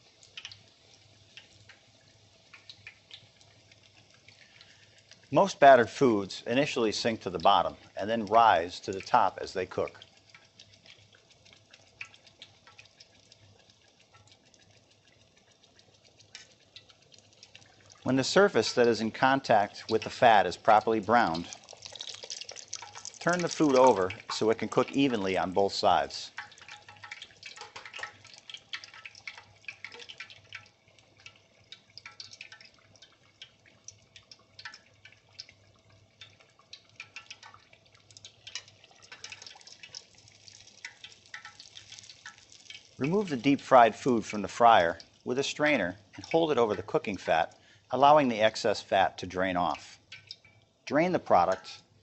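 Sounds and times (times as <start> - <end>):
fish deep-frying in oil: 0.0 - 52.0.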